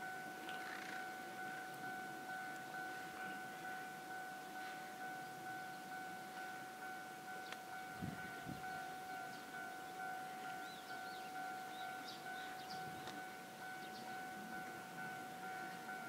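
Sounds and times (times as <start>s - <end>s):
level-crossing two-tone warning bell: 0.0s - 16.0s.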